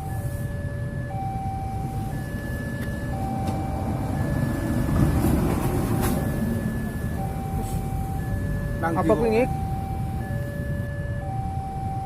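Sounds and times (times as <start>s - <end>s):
level crossing two-tone alarm: 0.0s - 12.0s
low rumble of road traffic: 0.0s - 12.0s.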